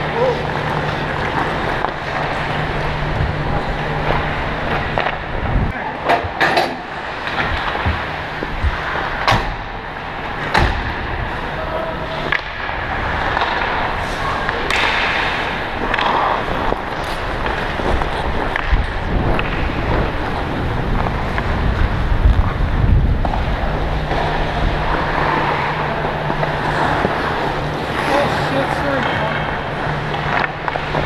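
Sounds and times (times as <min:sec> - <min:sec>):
rumble of motion on microphone: 0:00.0 - 0:05.9, 0:07.0 - 0:31.0
skates scraping on ice: 0:00.0 - 0:09.3, 0:09.9 - 0:31.0
hockey sticks and puck clacking: 0:00.0 - 0:22.5, 0:23.2 - 0:31.0.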